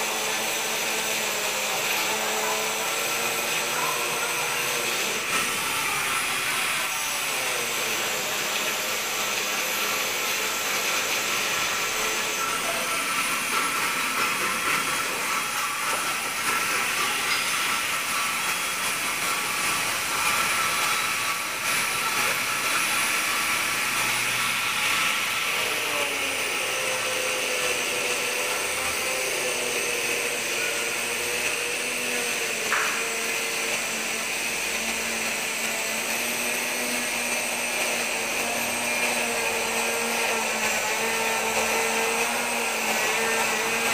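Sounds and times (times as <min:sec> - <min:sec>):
whirring machine: 0:00.0 - 0:43.9.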